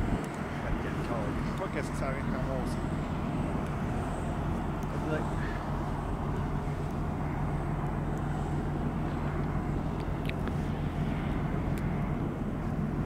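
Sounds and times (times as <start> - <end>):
jet engines low rumble: 0.0 - 13.0.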